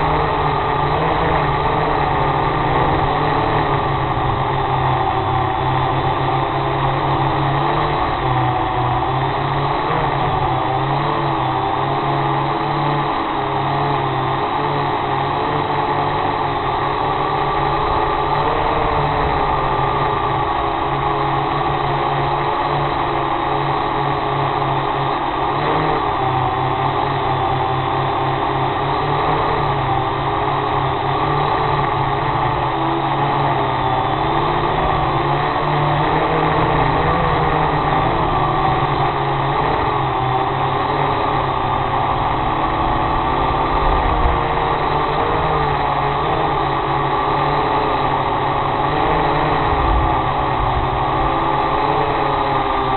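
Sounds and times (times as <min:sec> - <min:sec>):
drone propellers droning: 0:00.0 - 0:52.9.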